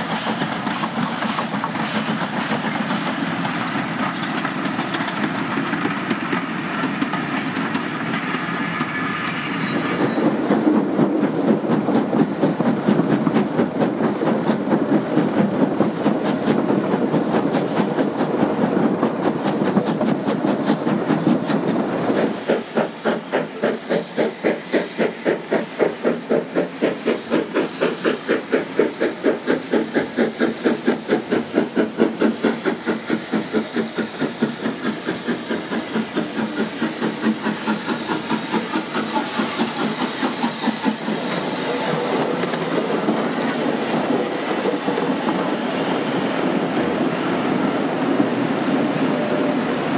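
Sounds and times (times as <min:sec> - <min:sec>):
carriages clacking over rail joints: 0:00.0 - 0:49.9
hissing steam: 0:00.0 - 0:49.9
steam engine chuffing: 0:00.0 - 0:49.9.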